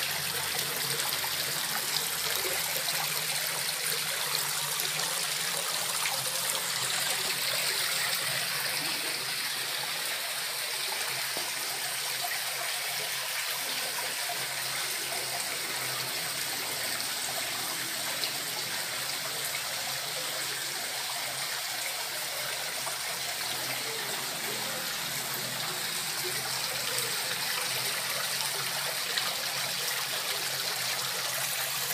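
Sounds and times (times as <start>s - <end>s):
water trickling and splashing: 0.0s - 31.9s.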